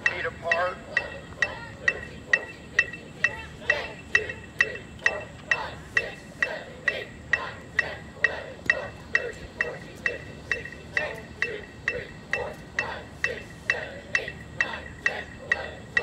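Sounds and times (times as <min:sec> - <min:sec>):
electronic metronome ticking: 0:00.0 - 0:16.0
voices: 0:00.0 - 0:16.0.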